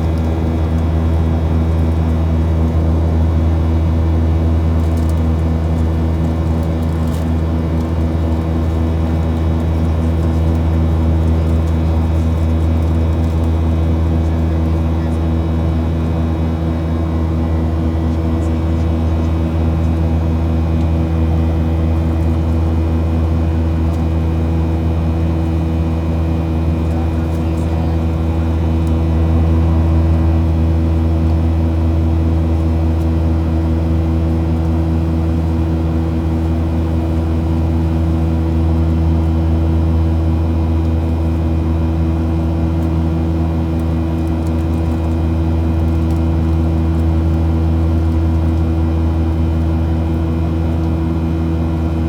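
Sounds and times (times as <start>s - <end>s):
aircraft engines droning: 0.0s - 52.0s.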